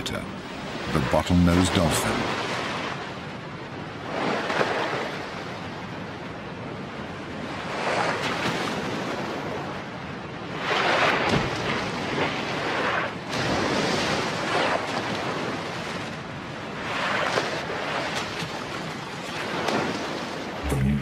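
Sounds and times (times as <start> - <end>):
sea water rushing and splashing: 0.0 - 21.0.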